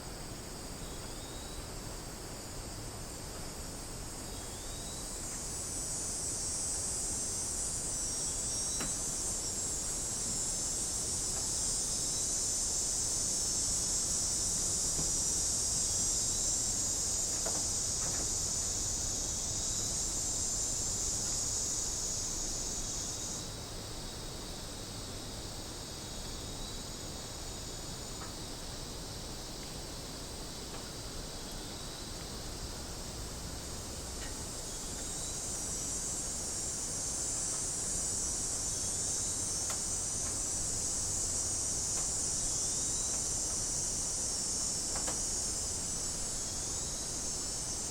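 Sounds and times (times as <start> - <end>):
cicadas buzzing: 0.0 - 47.9.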